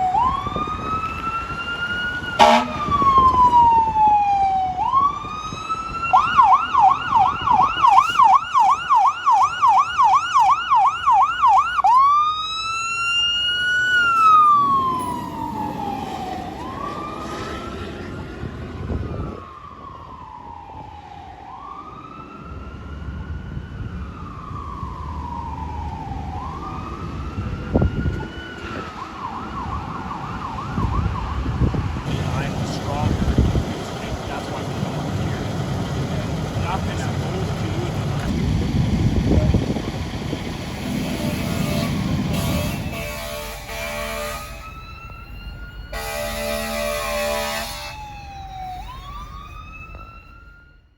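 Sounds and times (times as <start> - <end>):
fire truck siren wailing and yelping: 0.0 - 50.9.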